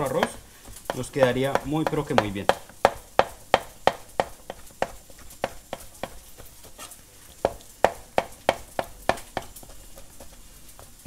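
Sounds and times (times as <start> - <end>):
knife chopping on cutting board: 0.0 - 11.0.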